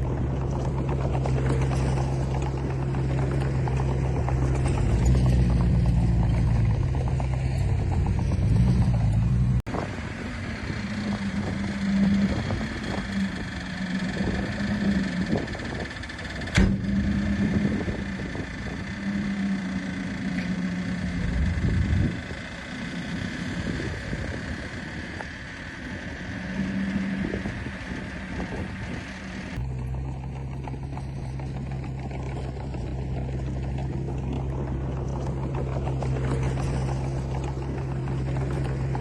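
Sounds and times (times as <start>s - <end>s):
diesel machinery engine running: 0.0s - 39.0s.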